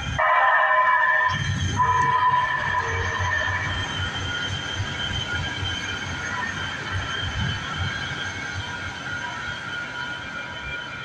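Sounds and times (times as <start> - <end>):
train wheels rumbling on rails: 0.0 - 11.0
high-pitched wheel squeal: 1.2 - 11.0.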